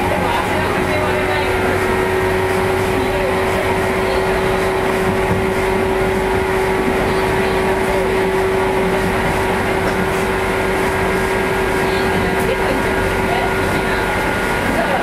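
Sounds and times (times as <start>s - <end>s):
electric train running: 0.0s - 15.0s
steady hum: 0.0s - 15.0s.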